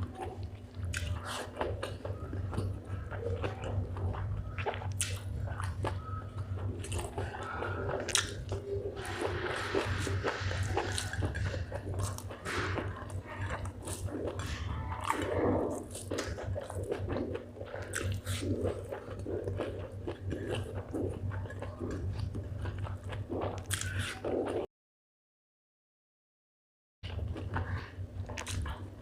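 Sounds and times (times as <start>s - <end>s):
low steady hum: 0.0s - 24.7s, 27.1s - 29.0s
wet crunchy chewing: 0.0s - 24.7s, 27.1s - 29.0s.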